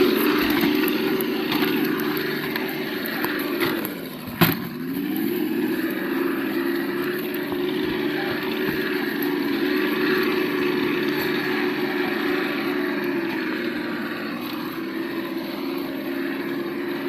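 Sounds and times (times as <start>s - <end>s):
simulated engine sound: 0.0s - 17.0s.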